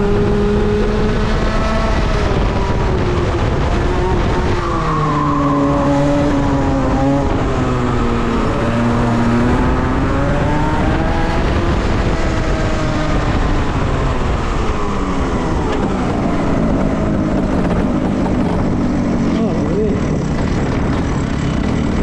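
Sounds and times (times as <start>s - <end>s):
kart engine at speed: 0.0s - 22.0s.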